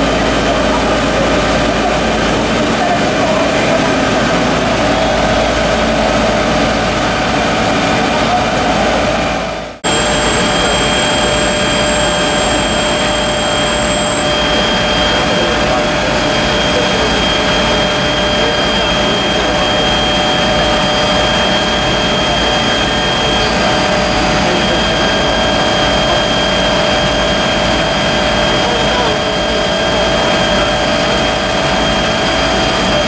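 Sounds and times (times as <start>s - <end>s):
fire engine pumps rushing: 0.0s - 33.0s
high whine: 0.0s - 33.0s.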